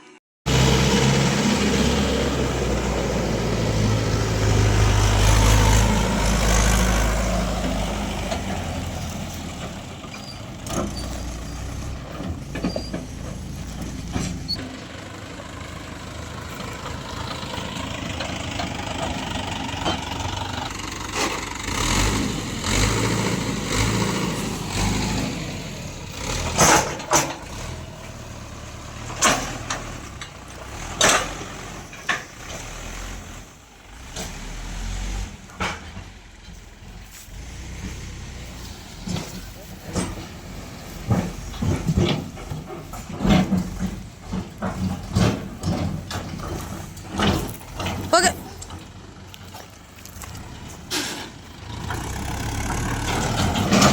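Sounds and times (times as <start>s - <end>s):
diesel machinery engine running: 0.5s - 53.9s.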